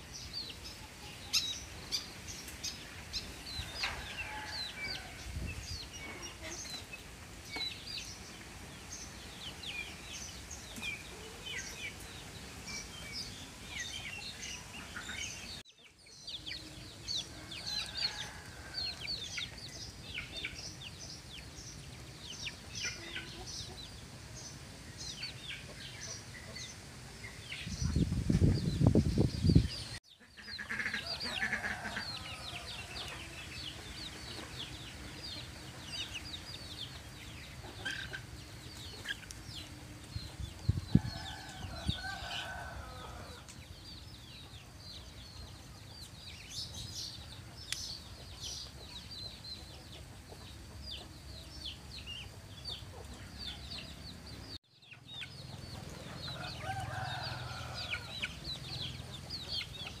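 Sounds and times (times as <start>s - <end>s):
chickens clucking: 0.2s - 60.0s.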